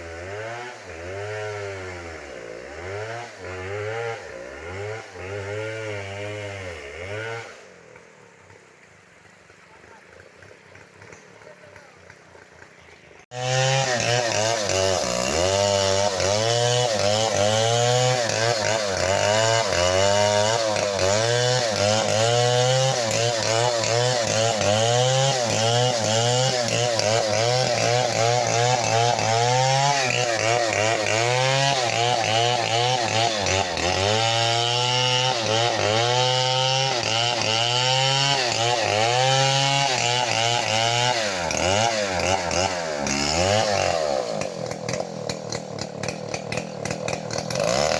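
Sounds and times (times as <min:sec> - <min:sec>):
chainsaw cutting a tree: 0:00.0 - 0:47.9.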